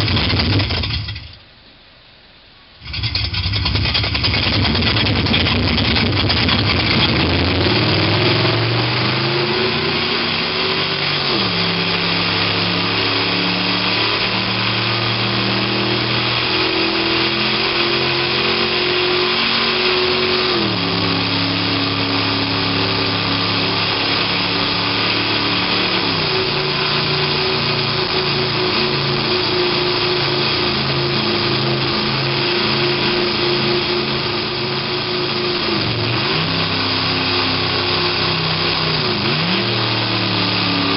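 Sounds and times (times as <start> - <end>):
simulated sports car engine: 0.0 - 1.5, 2.8 - 40.9.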